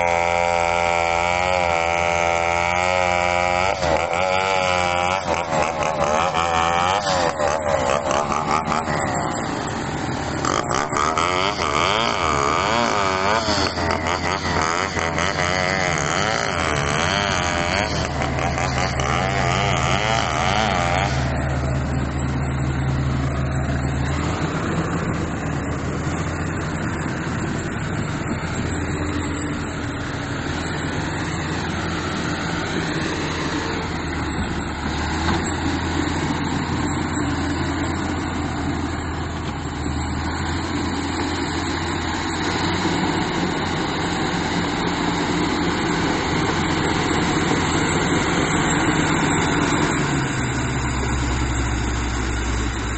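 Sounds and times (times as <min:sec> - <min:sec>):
bulldozer diesel engine: 0:00.0 - 0:52.9.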